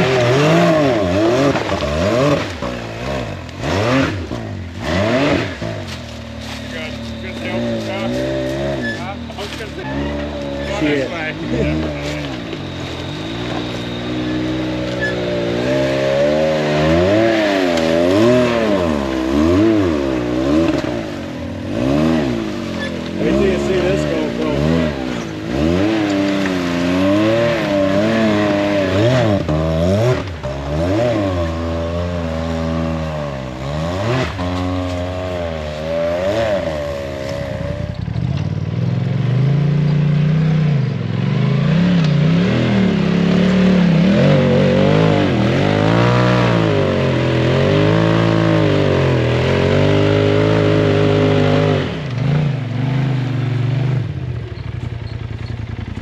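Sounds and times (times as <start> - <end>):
utility vehicle engine revving: 0.0 - 56.0.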